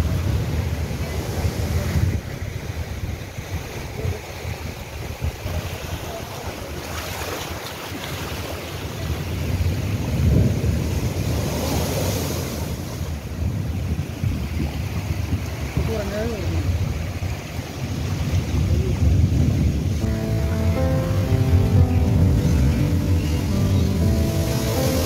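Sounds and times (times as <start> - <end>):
waves crashing against seawall: 0.0 - 20.1
wind buffeting microphone: 0.0 - 20.9
water surging across ground: 0.0 - 25.0.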